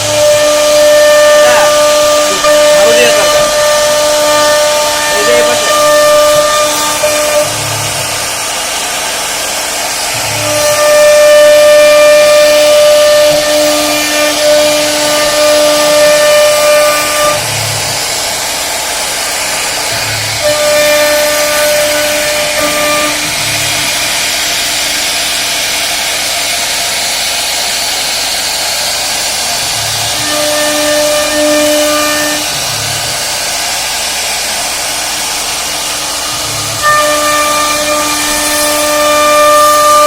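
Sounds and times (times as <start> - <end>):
cnc router carving wood: 0.0 - 40.0
router motor whine: 0.0 - 40.0.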